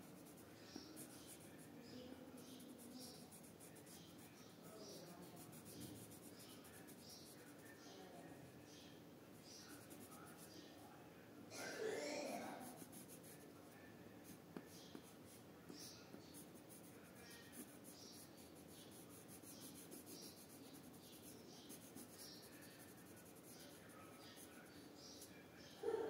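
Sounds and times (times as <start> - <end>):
pencil scratching on paper: 0.0 - 7.9, 9.4 - 10.6, 12.4 - 26.0.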